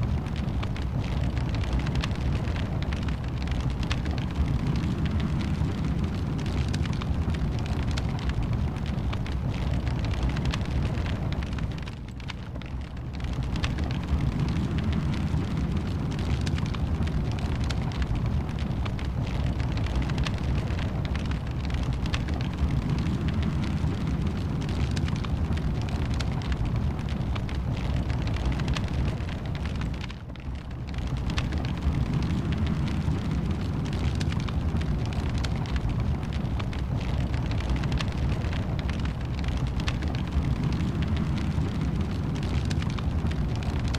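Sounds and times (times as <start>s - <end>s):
fire crackling and popping: 0.0s - 43.9s
fire rumbling: 0.0s - 43.9s.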